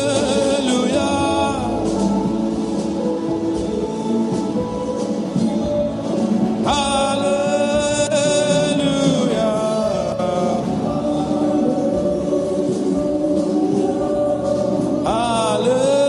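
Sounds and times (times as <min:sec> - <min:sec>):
keyboard: 0:00.0 - 0:16.0
voices singing gospel: 0:00.0 - 0:16.0.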